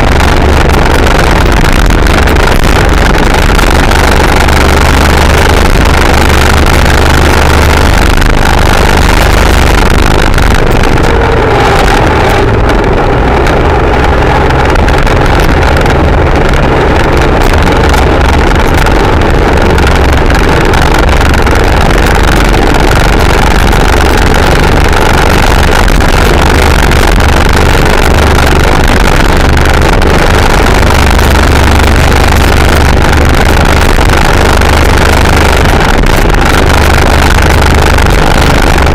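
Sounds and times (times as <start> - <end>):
scooter engine at high revs: 0.0 - 38.9
wind rush: 0.0 - 38.9.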